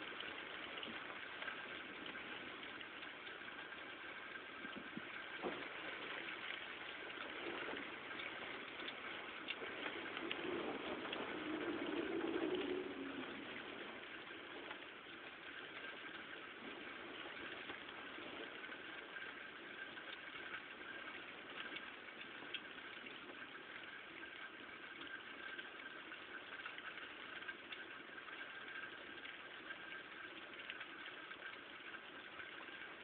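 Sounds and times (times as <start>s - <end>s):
steady rain: 0.0s - 33.0s
raindrops ticking on glass: 0.1s - 33.0s.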